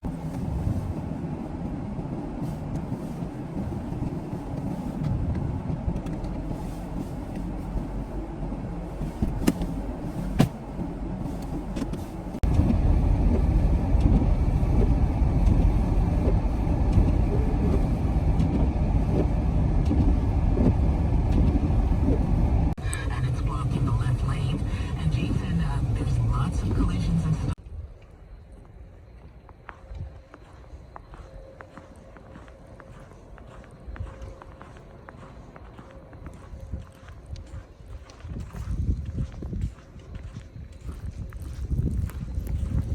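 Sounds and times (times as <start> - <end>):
vehicle rumble on road: 0.0 - 27.6, 29.4 - 42.9.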